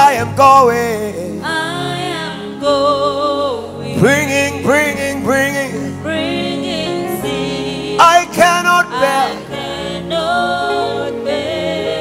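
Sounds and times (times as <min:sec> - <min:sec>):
choir singing: 0:01.2 - 0:12.0.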